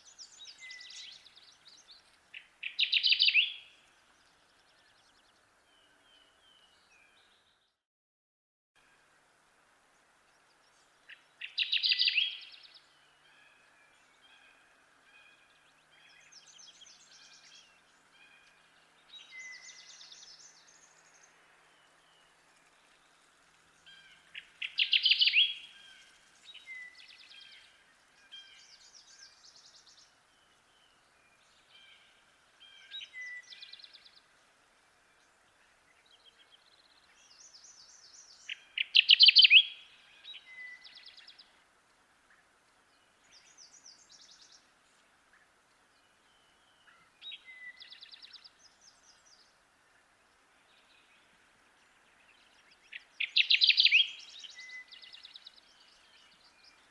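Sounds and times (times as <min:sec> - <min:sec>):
warbler singing: 0:00.0 - 0:07.7, 0:10.0 - 0:14.7, 0:15.3 - 0:34.3, 0:35.0 - 0:56.9
faint birdsong: 0:00.0 - 0:07.8, 0:08.8 - 0:56.9.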